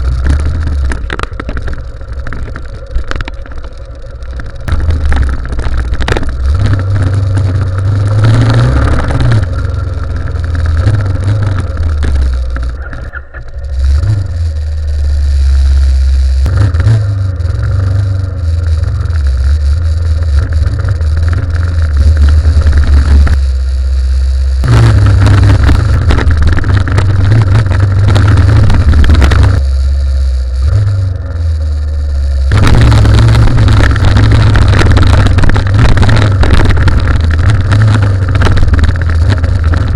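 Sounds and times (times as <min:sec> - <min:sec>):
wind rumble on microphone: 0:00.0 - 0:23.8, 0:24.6 - 0:39.9
motorcycle engine running: 0:00.0 - 0:39.9.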